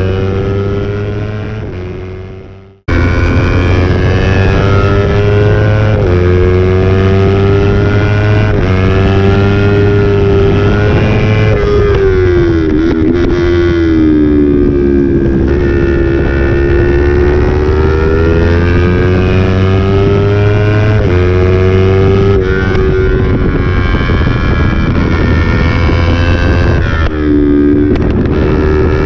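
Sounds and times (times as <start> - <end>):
motorcycle engine revving high: 0.0 - 29.0
wind on microphone: 0.0 - 29.0.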